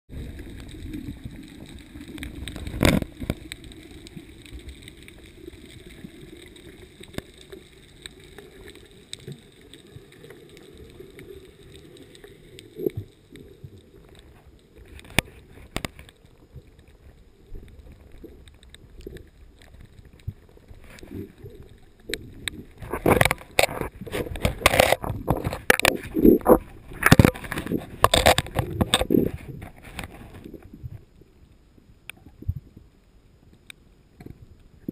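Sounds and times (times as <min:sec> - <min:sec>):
muffled underwater wash: 0:00.1 - 0:34.9.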